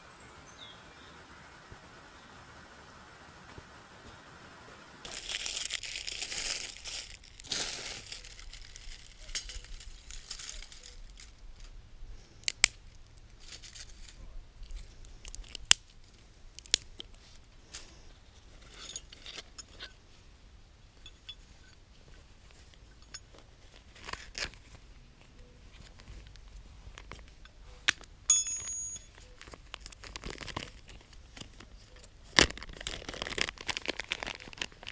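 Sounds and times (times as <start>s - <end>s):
handling rustle: 5.0s - 11.8s, 12.6s - 20.3s, 20.9s - 34.9s
dry leaves and twigs crunching: 5.0s - 20.3s, 20.9s - 34.9s.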